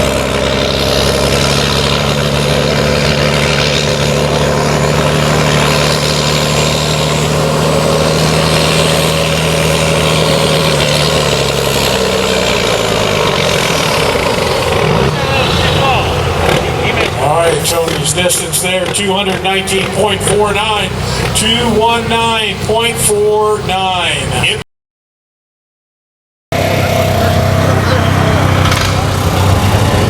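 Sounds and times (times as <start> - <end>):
diesel tractor engine under load: 0.0 - 24.6, 26.5 - 30.0.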